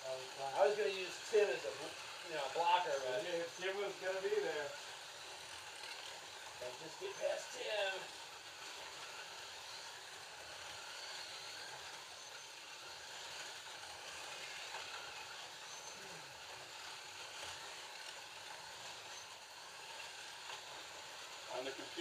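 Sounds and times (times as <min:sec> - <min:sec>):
slot car motors whirring: 0:00.0 - 0:22.0.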